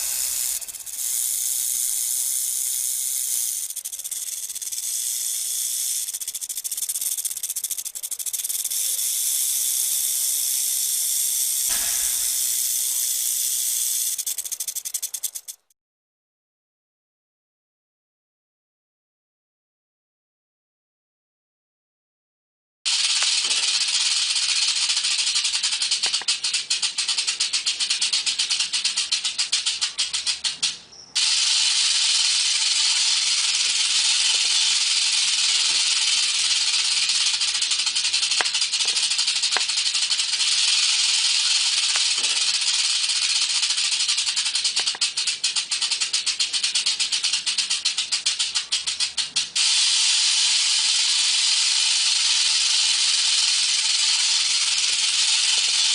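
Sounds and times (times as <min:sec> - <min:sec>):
rattlesnake rattle buzzing: 0:00.0 - 0:15.7, 0:22.9 - 0:55.9.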